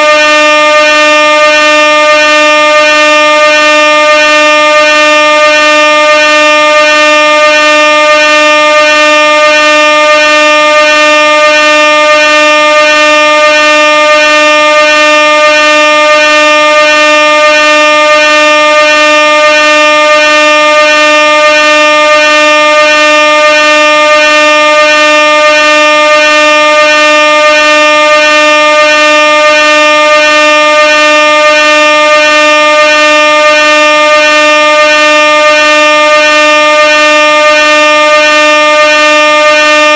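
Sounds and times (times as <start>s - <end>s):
air horn blast: 0.0s - 39.9s.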